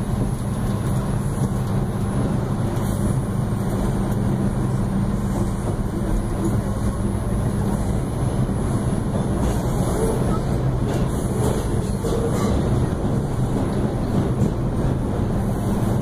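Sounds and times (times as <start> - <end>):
subway train wheels rumbling on rail: 0.0 - 16.0.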